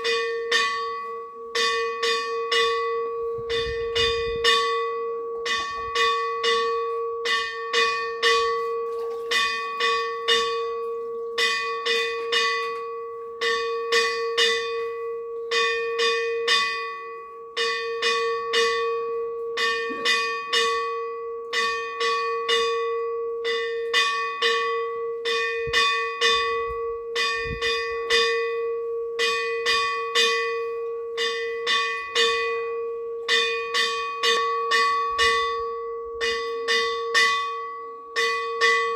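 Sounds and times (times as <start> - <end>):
temple bell rung rapidly: 0.0 - 38.9.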